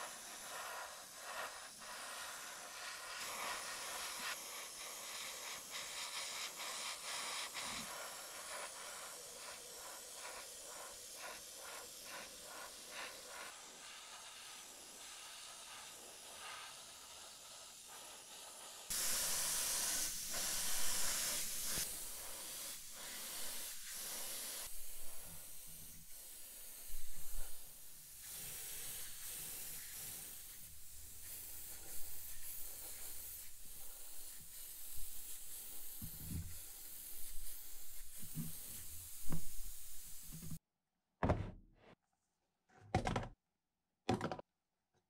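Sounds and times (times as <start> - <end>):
airbrush spraying hiss: 0.0 - 40.6.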